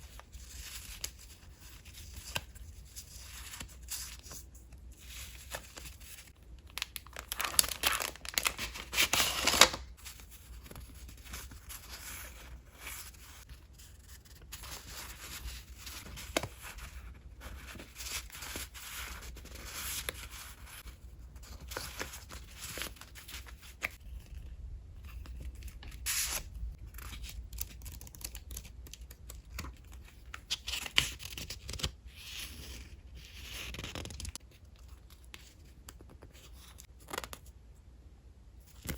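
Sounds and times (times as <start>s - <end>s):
paper rustling and crinkling: 0.0s - 37.3s.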